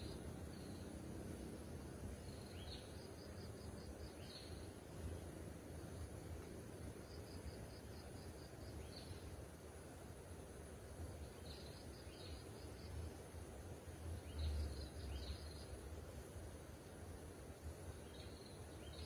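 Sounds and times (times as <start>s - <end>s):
small birds chirping: 0.0s - 9.6s, 11.2s - 16.4s, 17.7s - 19.0s.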